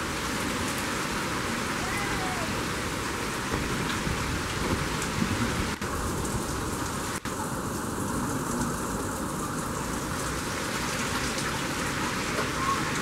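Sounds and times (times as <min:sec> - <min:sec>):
gusting wind: 0:00.0 - 0:13.0
heavy rain pouring: 0:00.0 - 0:13.0.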